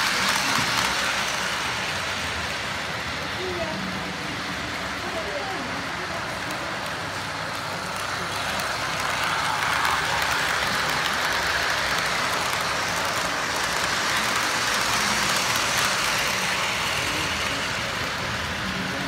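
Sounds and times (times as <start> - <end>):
model train rolling along track: 0.0 - 19.0.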